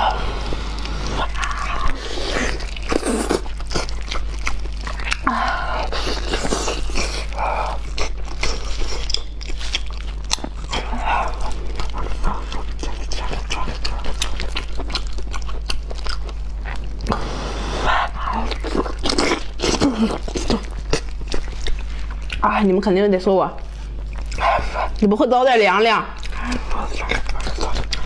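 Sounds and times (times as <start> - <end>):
wet chewing and mouth smacks: 0.5 - 17.2, 18.0 - 22.5, 23.6 - 25.1, 26.1 - 28.0.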